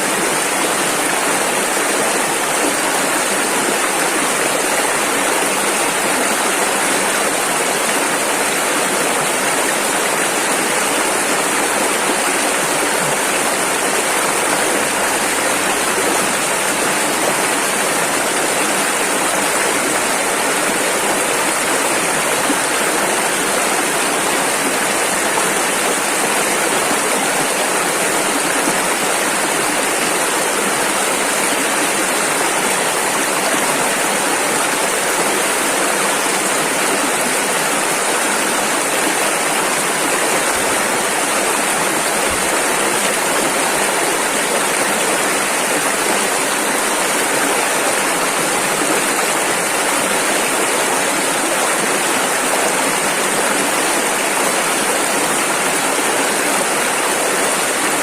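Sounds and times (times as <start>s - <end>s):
rushing river rapids: 0.0s - 58.0s.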